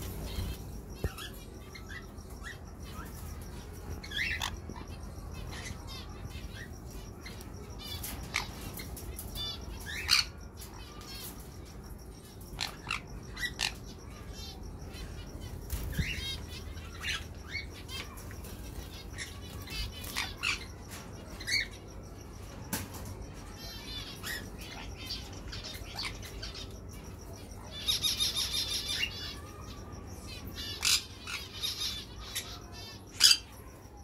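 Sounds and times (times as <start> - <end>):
birds chirping and chattering: 0.0 - 34.0.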